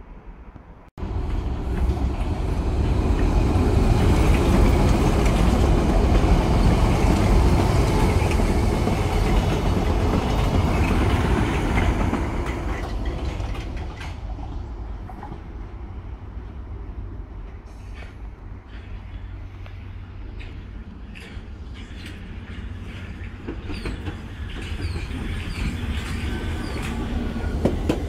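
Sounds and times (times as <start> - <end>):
tube train passing through station: 0.0 - 28.0.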